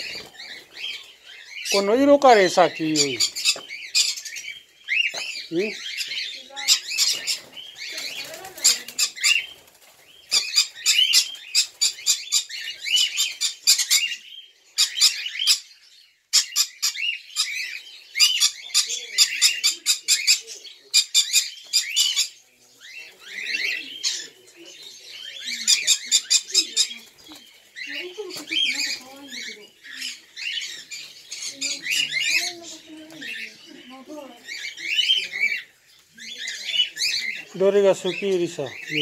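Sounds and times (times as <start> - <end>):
parrots chattering: 0.0 - 9.7, 10.3 - 39.0.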